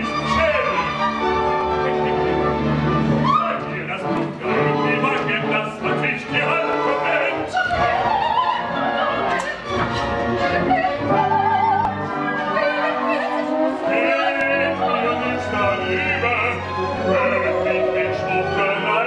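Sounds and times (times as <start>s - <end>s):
opera voices singing: 0.0s - 19.0s
orchestra playing: 0.0s - 19.0s.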